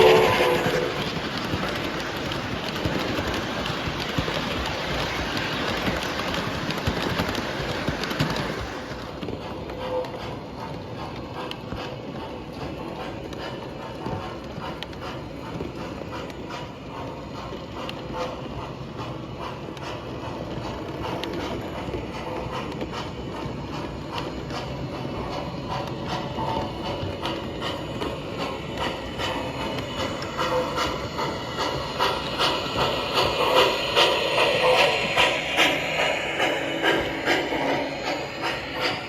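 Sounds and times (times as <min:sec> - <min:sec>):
model train mechanical rattle: 0:00.0 - 0:39.0.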